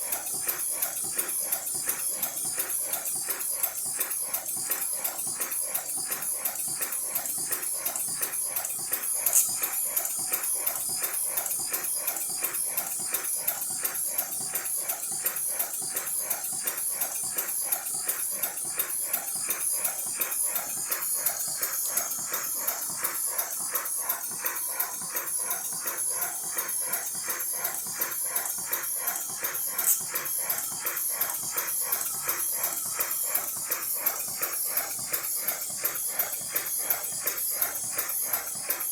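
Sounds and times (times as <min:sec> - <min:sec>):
model steam locomotive running: 0:00.0 - 0:38.9.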